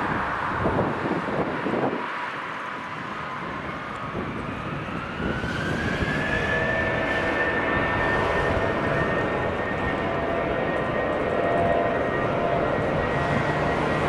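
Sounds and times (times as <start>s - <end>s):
jet engine rumble: 0.0s - 14.0s
jet engine whine: 0.0s - 14.0s.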